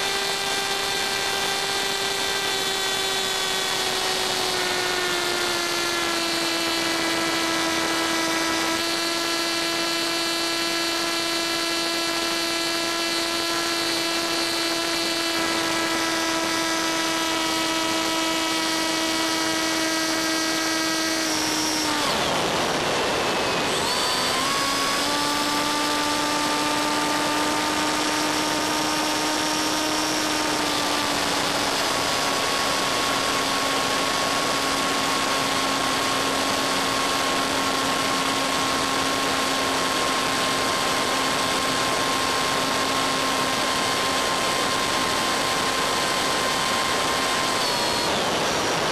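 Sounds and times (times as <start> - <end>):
model plane motor whining: 0.0 - 48.9.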